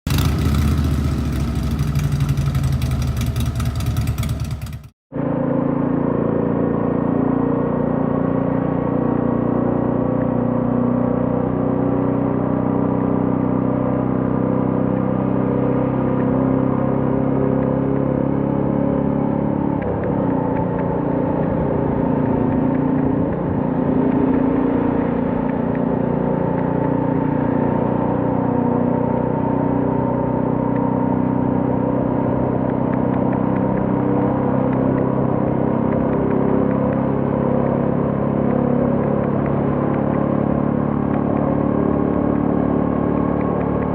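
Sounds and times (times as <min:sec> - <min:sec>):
motorcycle engine running: 0:00.1 - 0:43.9.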